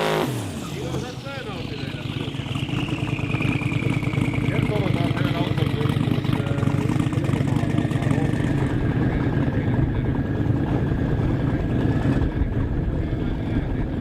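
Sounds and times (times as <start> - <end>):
engine idling with choppy beat: 1.3 - 14.0.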